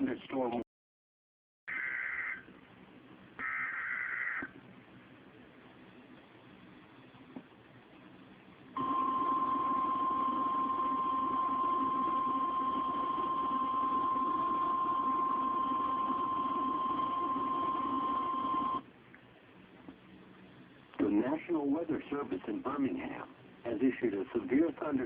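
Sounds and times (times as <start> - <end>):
faint radio static: 1.7 - 25.0.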